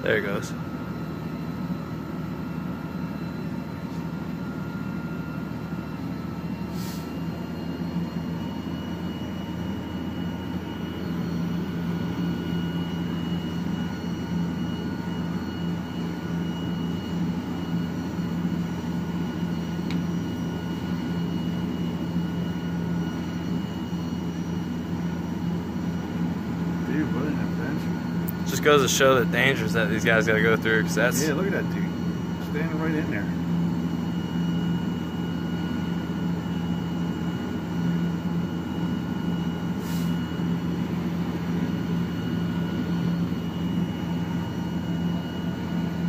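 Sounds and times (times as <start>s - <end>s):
fire engine pump droning: 0.0s - 46.0s.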